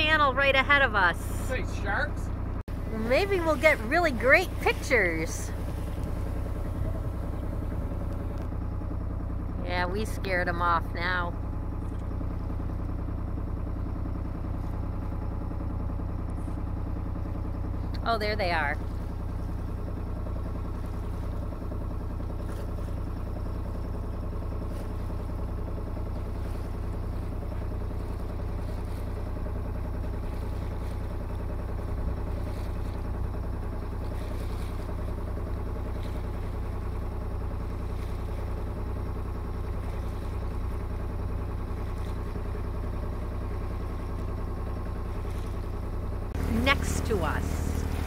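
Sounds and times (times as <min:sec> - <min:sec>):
boat diesel engine droning: 0:00.0 - 0:48.0.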